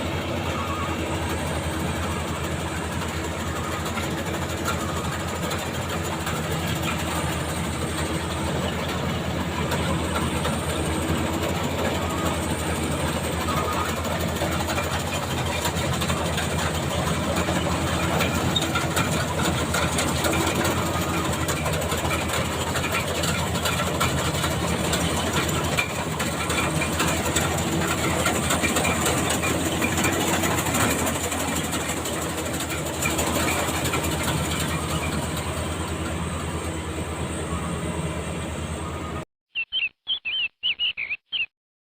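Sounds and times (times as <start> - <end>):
combine harvester engine running: 0.0 - 41.0.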